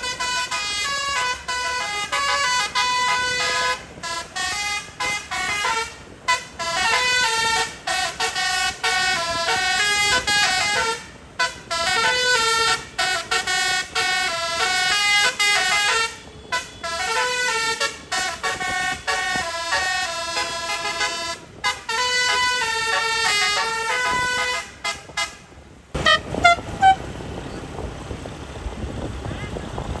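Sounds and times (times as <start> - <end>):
bus air horn melody: 0.0 - 27.4, 29.2 - 29.7.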